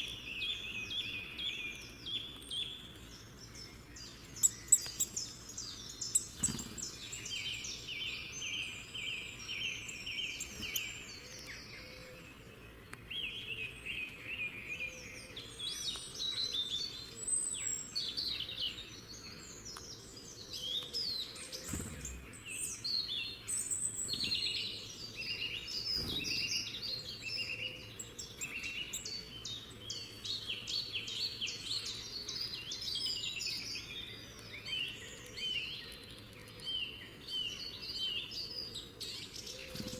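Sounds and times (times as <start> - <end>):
birds chirping and trilling: 0.0 - 39.9
faint steady background noise: 0.0 - 39.9.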